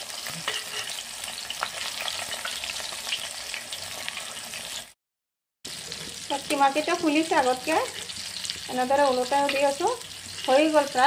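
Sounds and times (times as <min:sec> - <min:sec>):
food sizzling in hot oil: 0:00.0 - 0:05.0, 0:05.7 - 0:11.0.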